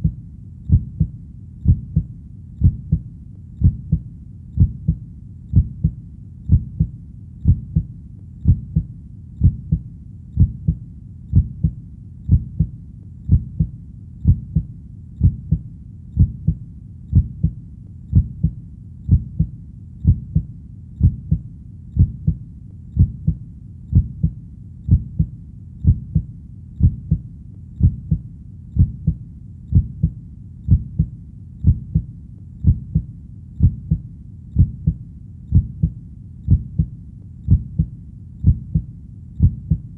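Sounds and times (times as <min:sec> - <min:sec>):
faint low hum: 0:00.0 - 0:39.9
heartbeat thumps: 0:00.0 - 0:39.9.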